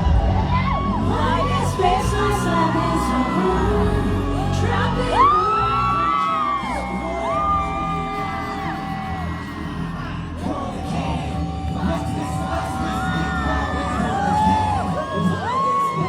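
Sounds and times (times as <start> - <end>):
fans screaming and whooping: 0.0 - 16.0
pop music with heavy bass: 0.0 - 16.0.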